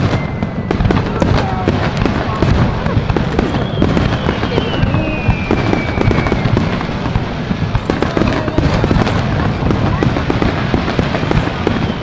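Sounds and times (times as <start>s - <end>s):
fireworks crackling pops: 0.0s - 12.0s
low rumble of booms: 0.0s - 12.0s.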